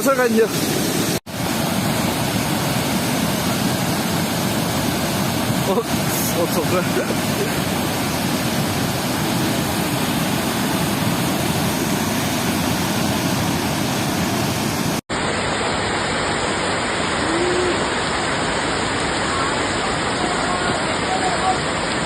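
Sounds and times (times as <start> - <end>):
floodwater rushing in river: 0.0 - 22.0.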